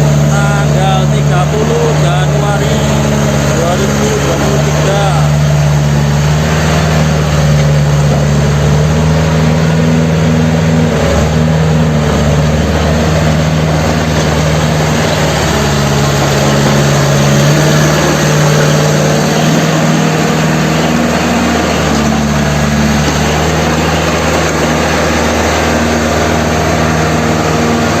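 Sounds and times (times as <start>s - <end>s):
diesel engine running steadily: 0.0s - 28.0s.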